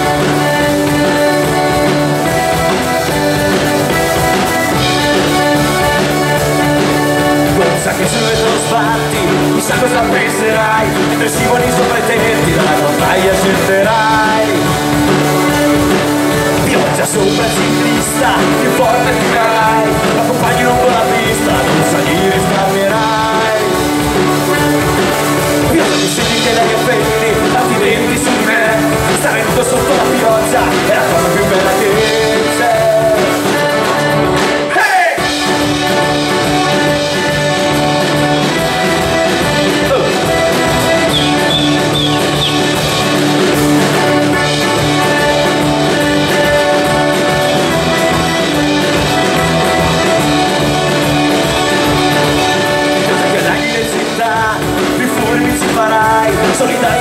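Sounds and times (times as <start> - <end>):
accordion: 0.0 - 57.0
live folk-rock band playing: 0.0 - 57.0.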